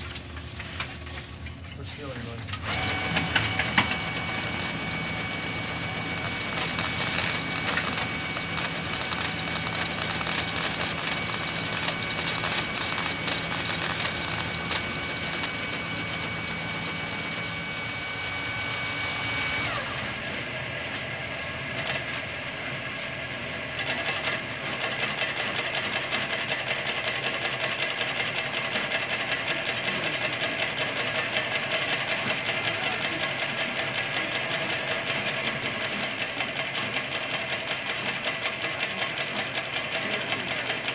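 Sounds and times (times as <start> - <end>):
computer printer clatter: 0.0 - 40.9.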